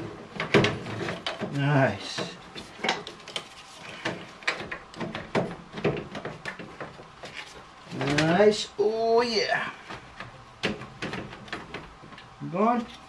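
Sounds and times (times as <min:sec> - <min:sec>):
hard parts clicking and knocking: 0:00.0 - 0:08.4, 0:09.8 - 0:12.3.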